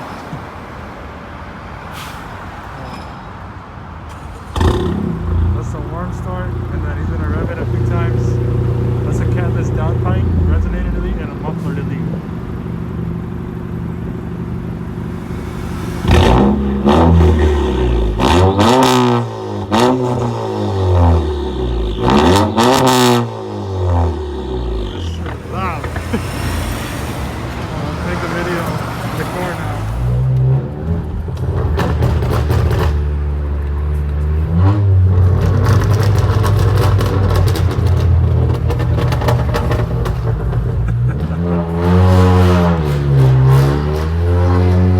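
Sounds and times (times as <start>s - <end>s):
car engine idling and revving: 4.0s - 44.9s.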